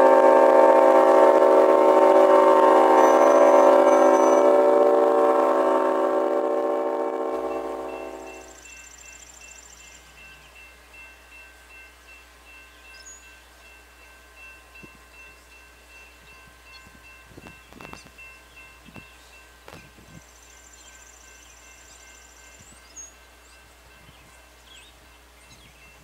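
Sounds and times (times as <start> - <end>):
railroad crossing bell ringing: 0.0 - 26.0.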